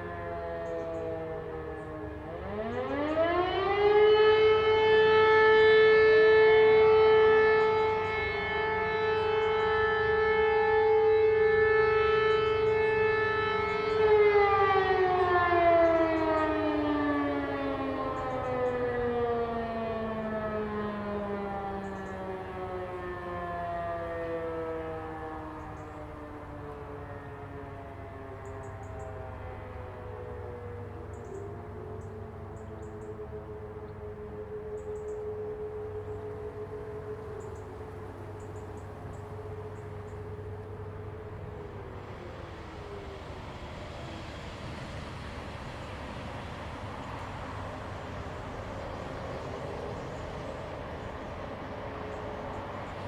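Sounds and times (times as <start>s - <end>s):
civil defence sirens wailing: 0.0s - 53.0s.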